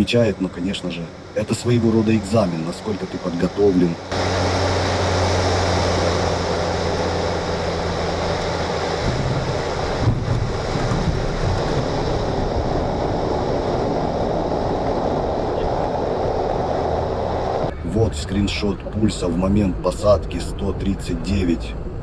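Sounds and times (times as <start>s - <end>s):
heavy airflow noise: 0.0s - 22.0s
turboprop engine and propeller: 0.0s - 22.0s
wheels bumping on runway: 1.1s - 19.0s.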